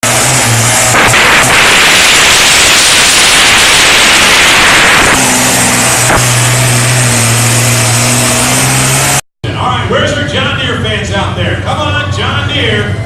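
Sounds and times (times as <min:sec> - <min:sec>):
tractor engine roaring: 0:00.0 - 0:13.0.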